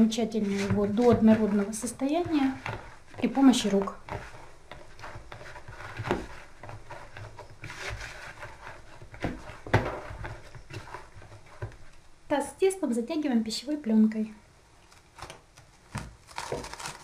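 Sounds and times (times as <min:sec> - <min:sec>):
dough squishing: 0:00.0 - 0:12.4, 0:14.9 - 0:17.0.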